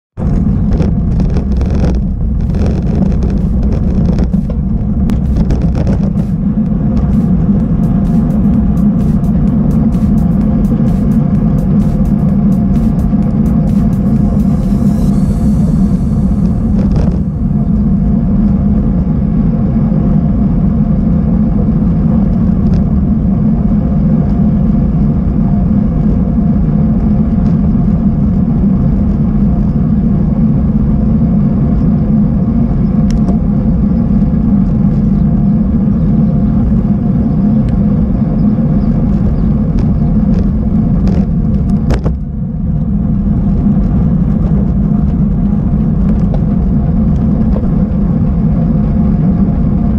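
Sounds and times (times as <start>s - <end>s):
bike tyre noise on rough track: 0.2s - 49.9s
wind rumble: 0.2s - 49.9s.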